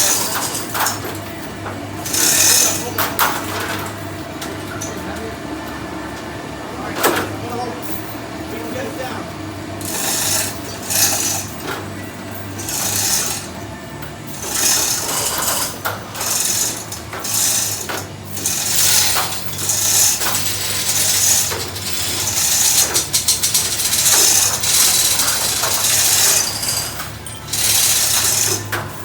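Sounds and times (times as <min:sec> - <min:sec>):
chain rattling through hoist: 0:00.0 - 0:05.0, 0:09.8 - 0:13.6, 0:14.3 - 0:29.0.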